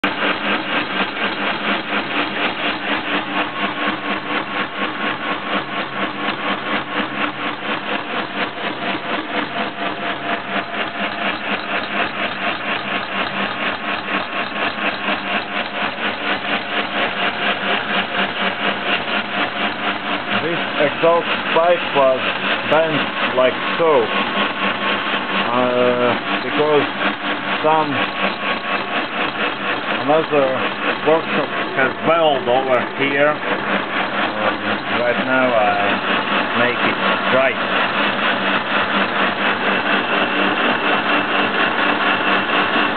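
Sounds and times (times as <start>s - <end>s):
milling machine cutting metal: 0.0s - 42.9s.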